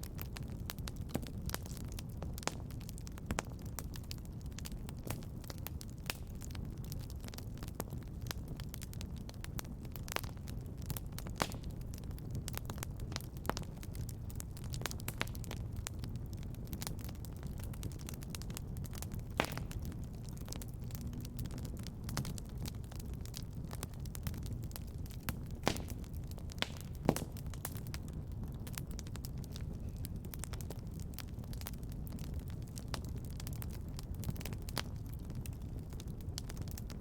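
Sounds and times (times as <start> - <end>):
fire crackling and popping: 0.0 - 37.0
low rumble of fire: 0.0 - 37.0.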